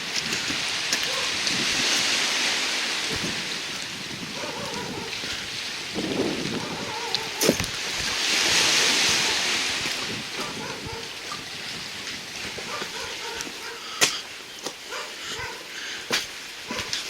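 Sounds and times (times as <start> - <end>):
sea waves washing in: 0.0 - 16.8.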